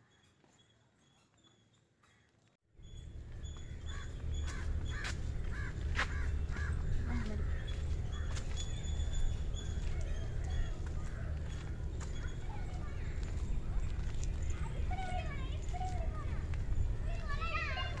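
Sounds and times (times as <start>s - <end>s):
steady low rumble: 2.9s - 18.0s.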